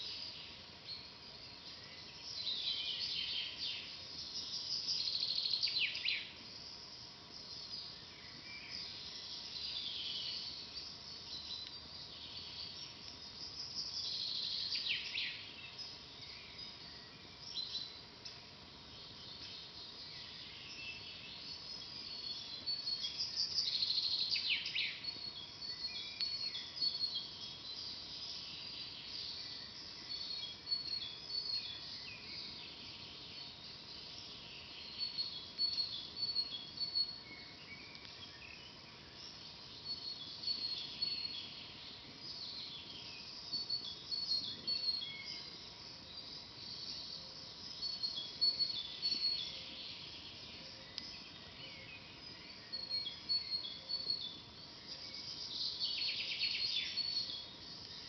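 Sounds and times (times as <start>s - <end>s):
forest birds singing and chirping: 0.0s - 58.0s.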